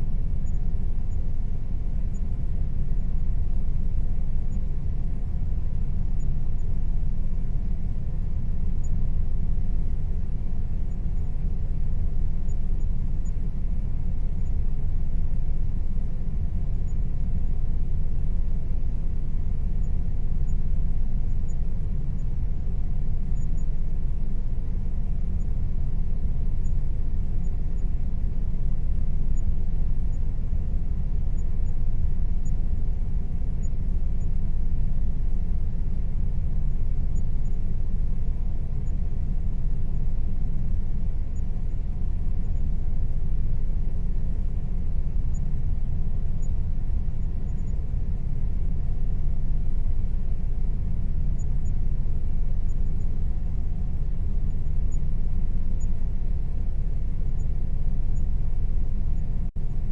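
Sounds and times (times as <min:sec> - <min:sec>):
air conditioner rumbling: 0:00.0 - 0:59.9
faint steady tone: 0:00.0 - 0:59.9.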